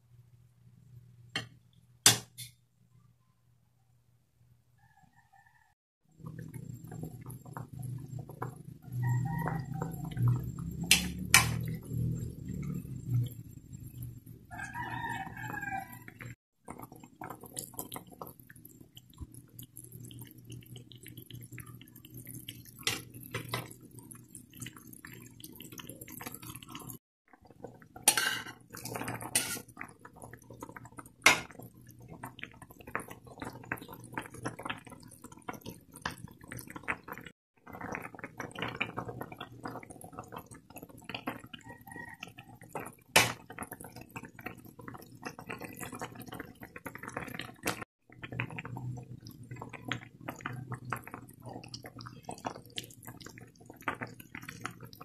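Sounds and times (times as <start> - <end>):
soup boiling and bubbling: 6.0 - 55.0.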